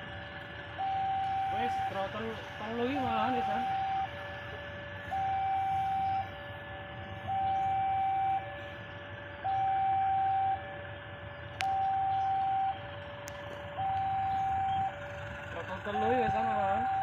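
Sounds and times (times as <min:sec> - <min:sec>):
level crossing alarm tones: 0:00.7 - 0:17.0.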